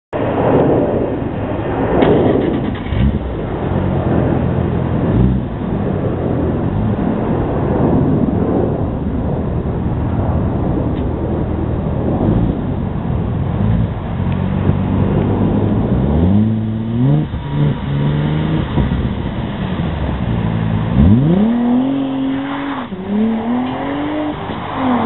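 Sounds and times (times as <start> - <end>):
car engine revving: 0.6 - 25.0.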